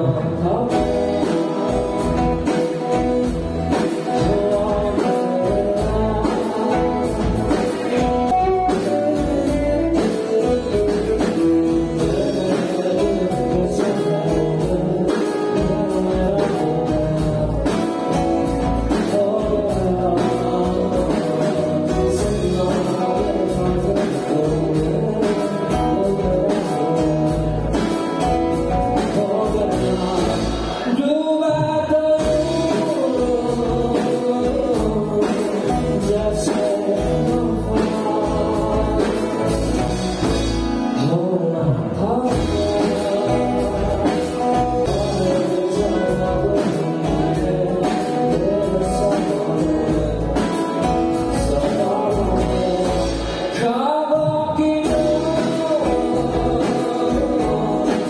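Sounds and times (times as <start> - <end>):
acoustic and electric guitars: 0.0 - 58.0
bass guitar: 0.0 - 58.0
drum kit beat: 0.0 - 58.0
man singing: 0.0 - 58.0.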